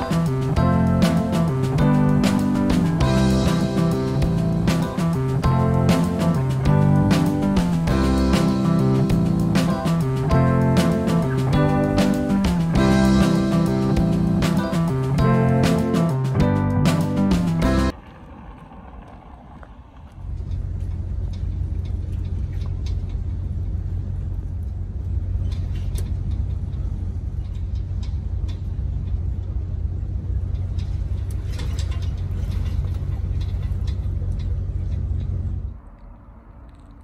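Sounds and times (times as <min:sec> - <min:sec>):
engine humming steadily: 0:00.0 - 0:36.0.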